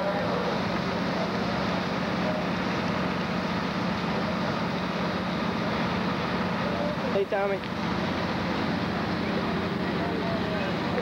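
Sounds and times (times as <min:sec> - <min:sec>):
fire engine pumps droning: 0:00.0 - 0:11.0.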